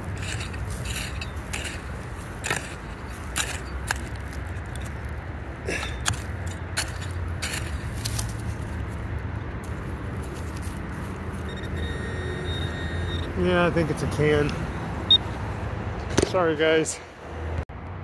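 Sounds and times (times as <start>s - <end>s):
metal tool digging gravelly soil: 0.0s - 14.5s.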